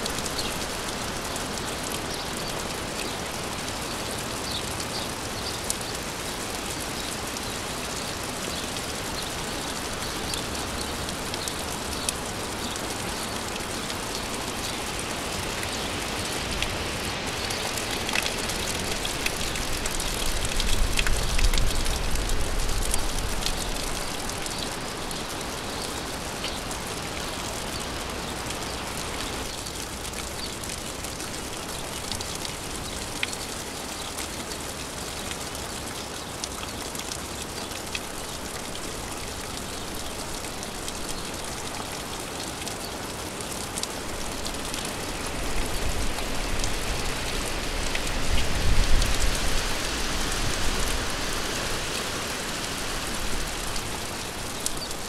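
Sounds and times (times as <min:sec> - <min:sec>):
raindrops ticking: 0:00.0 - 0:55.0
steady rain: 0:00.0 - 0:55.0.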